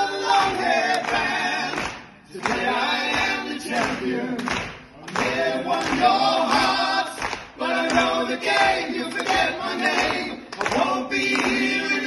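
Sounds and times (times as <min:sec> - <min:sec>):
men singing a cappella in harmony: 0:00.0 - 0:12.0
hand clapping: 0:00.3 - 0:12.0.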